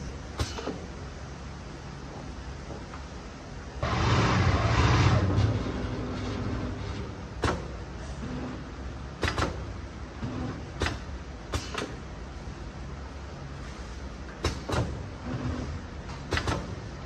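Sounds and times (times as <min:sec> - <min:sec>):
machine hiss and hum: 0:00.0 - 0:17.0.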